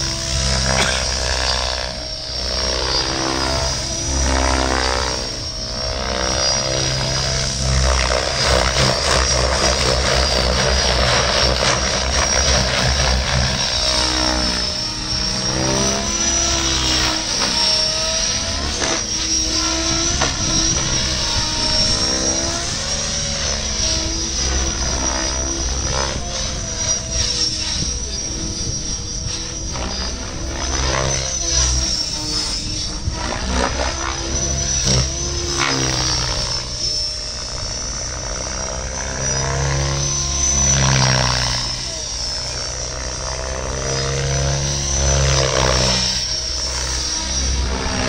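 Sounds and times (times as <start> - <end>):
model helicopter rotor whine: 0.0 - 48.0.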